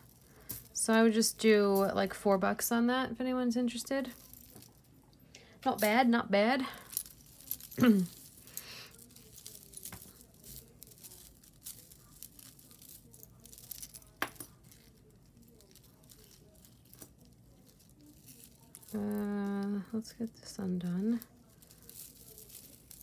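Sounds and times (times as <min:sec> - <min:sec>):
jewelry beads and clasps clinking: 0:00.0 - 0:23.0.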